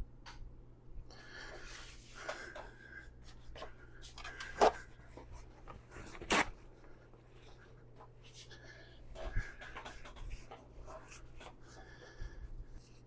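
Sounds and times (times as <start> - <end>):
low mains hum: 0.0 - 13.0.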